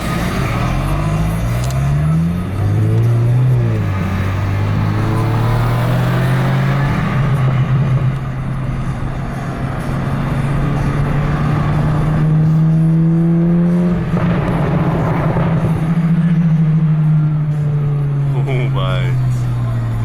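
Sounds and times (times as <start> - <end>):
car exhaust droning: 0.0 - 20.0.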